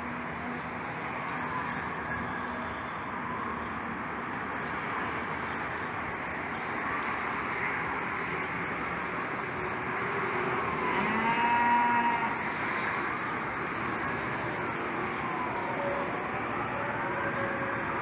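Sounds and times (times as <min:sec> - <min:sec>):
city background noise: 0:00.0 - 0:18.0
emergency siren wailing: 0:00.0 - 0:18.0.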